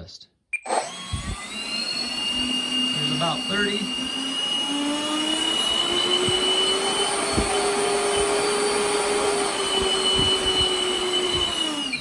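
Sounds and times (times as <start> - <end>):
electric ducted fans whining: 0.7 - 12.0.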